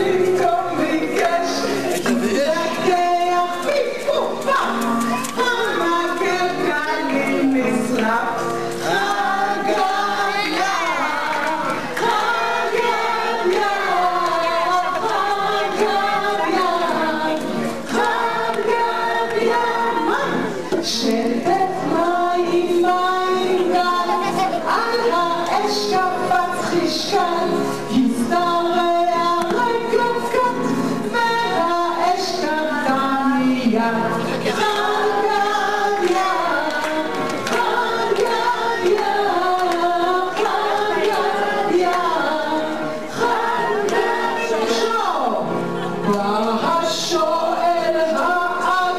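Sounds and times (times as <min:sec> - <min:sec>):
group of voices singing: 0:00.0 - 0:48.9.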